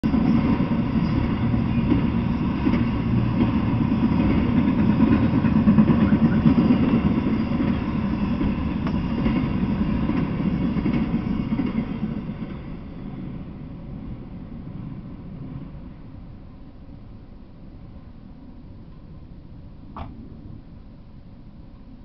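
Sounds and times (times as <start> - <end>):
freight train wheels rumbling on rail: 0.0 - 22.0.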